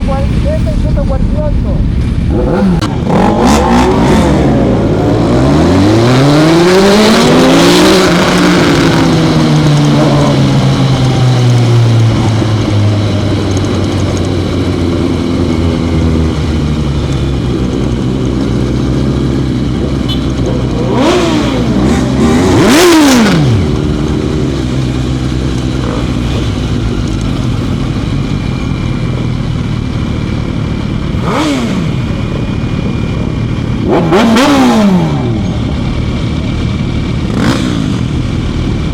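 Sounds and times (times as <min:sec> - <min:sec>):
motorcycle engines accelerating: 0:00.0 - 0:38.9.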